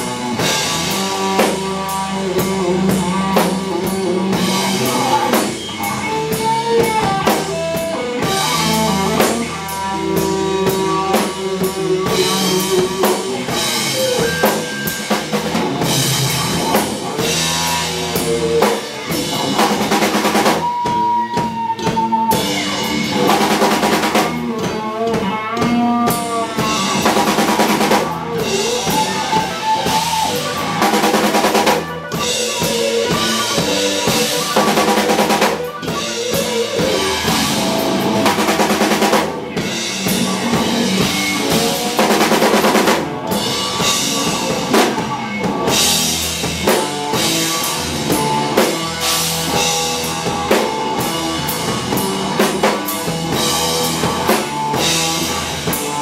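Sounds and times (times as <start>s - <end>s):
distorted electric guitar: 0.0s - 56.0s
drum kit: 0.0s - 56.0s
live rock band playing: 0.0s - 56.0s.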